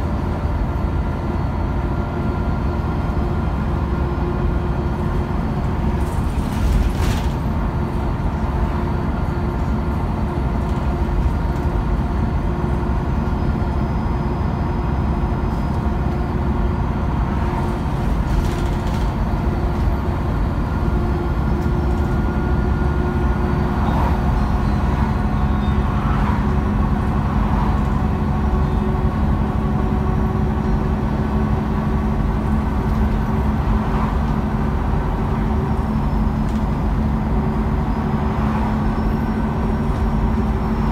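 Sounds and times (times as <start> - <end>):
bus drivetrain rumble: 0.0 - 40.9
road noise: 0.0 - 40.9.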